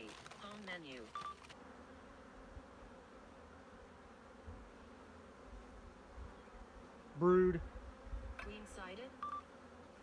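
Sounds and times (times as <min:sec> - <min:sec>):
honey bees buzzing: 0:00.0 - 0:10.0.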